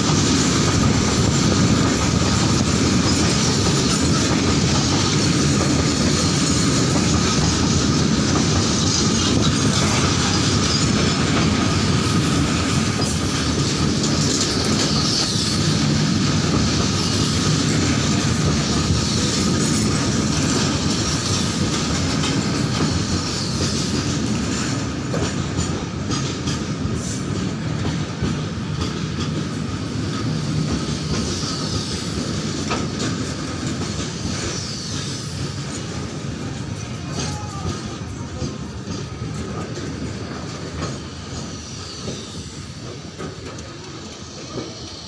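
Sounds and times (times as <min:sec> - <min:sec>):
steel wheels on rails: 0:00.0 - 0:45.0.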